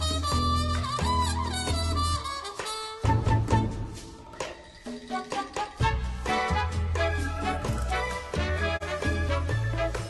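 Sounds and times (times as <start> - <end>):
upbeat mambo music with horns: 0.0 - 10.0.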